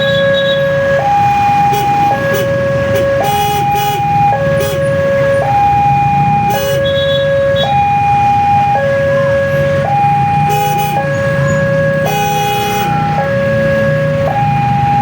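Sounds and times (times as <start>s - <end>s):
low rumble of engines: 0.0s - 15.0s
two-tone level crossing alarm: 0.0s - 15.0s.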